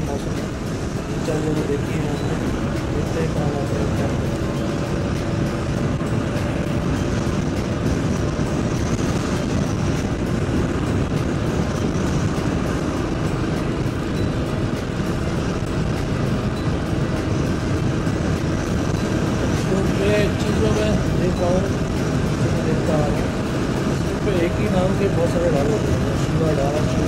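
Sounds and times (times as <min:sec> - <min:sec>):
motorcycle engine cruising: 0:00.0 - 0:27.0
wind noise on microphone: 0:00.0 - 0:27.0.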